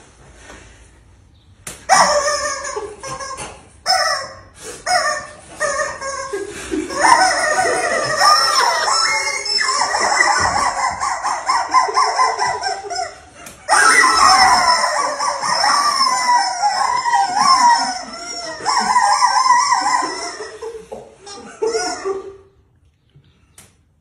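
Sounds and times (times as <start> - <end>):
rubber chicken toy squawking: 1.9 - 22.4.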